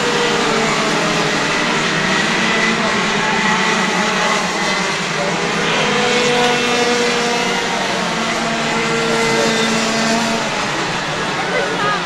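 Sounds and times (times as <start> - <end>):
racing kart engines buzzing: 0.0 - 12.0.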